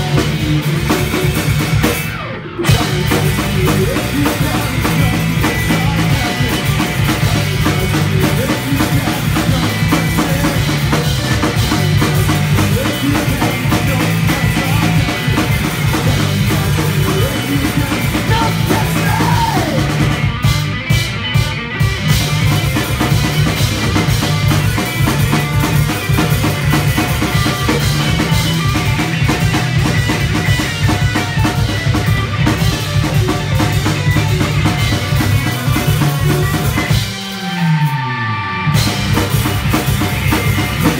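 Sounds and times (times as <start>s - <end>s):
distorted electric guitar: 0.0s - 40.9s
punk rock band playing: 0.0s - 40.9s.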